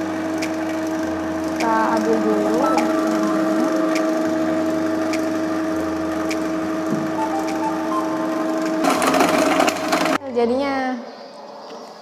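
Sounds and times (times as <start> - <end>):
vegetable chopper motor hum: 0.0 - 10.2.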